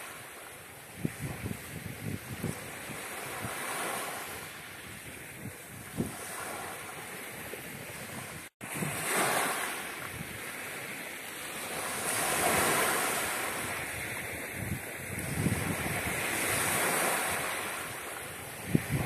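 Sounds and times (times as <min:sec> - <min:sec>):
small waves washing on pebble beach: 0:00.0 - 0:19.0.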